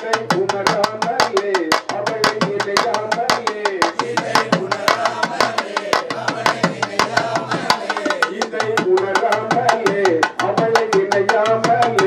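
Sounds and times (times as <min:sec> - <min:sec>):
fast steady drumming: 0:00.0 - 0:12.0.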